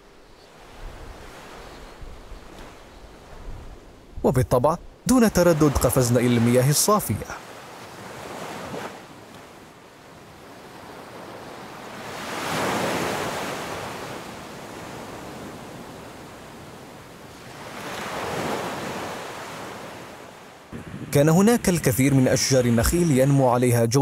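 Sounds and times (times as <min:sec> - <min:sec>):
ocean waves breaking on beach: 0:00.0 - 0:23.7.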